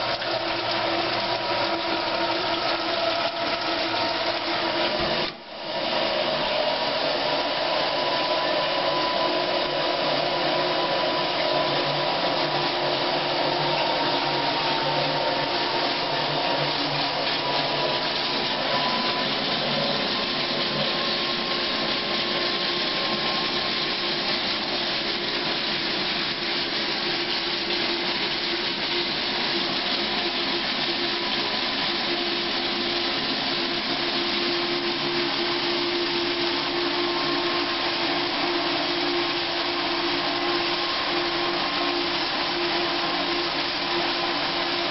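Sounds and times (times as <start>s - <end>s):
dishwasher motor hum: 0.0s - 44.9s
dishwasher water rushing hiss: 0.0s - 44.9s.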